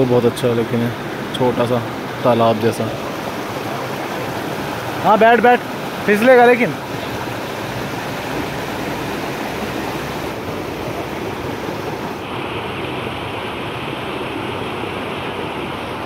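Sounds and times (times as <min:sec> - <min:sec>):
small waterfall splashing over rocks: 0:00.0 - 0:16.0.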